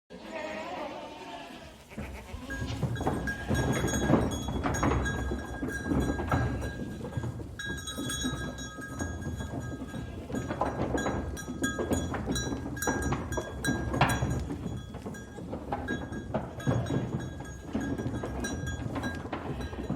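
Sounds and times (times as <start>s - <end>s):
hooves clattering and shuffling: 0.2s - 19.9s
goat bells clanking: 1.8s - 19.9s.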